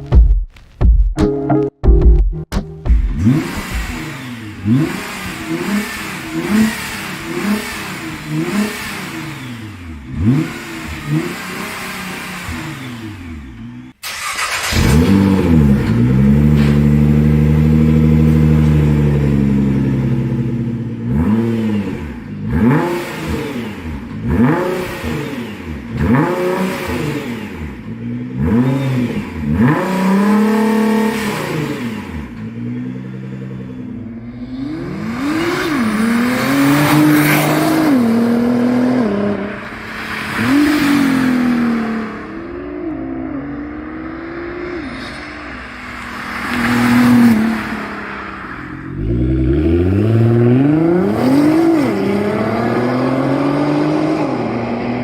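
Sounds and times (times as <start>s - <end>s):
car exhaust revving: 2.8s - 55.0s.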